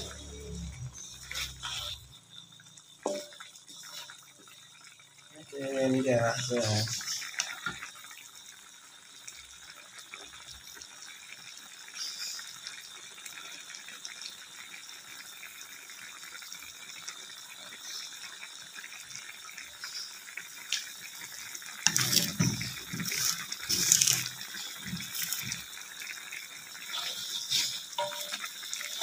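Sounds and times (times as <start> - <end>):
stew bubbling and sizzling: 0.0 - 29.0.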